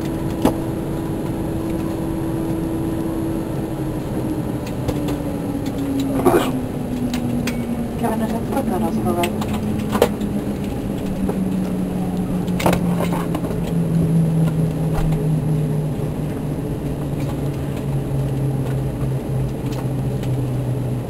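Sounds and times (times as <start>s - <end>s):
airplane cabin hum: 0.0s - 21.0s.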